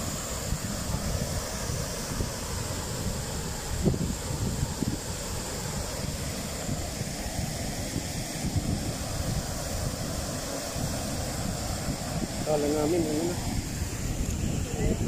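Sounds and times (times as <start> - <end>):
river water pouring over weir: 0.0 - 15.0
wind buffeting microphone: 0.0 - 15.0.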